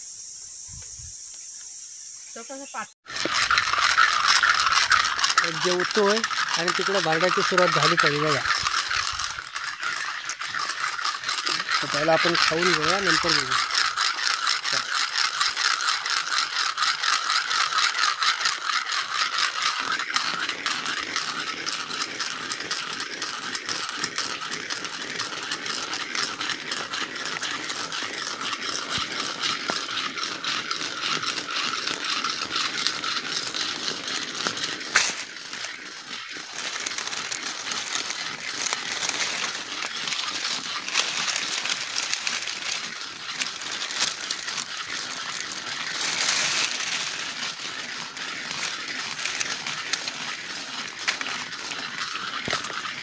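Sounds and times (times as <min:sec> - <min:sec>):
insect chorus buzzing: 0:00.0 - 0:53.0.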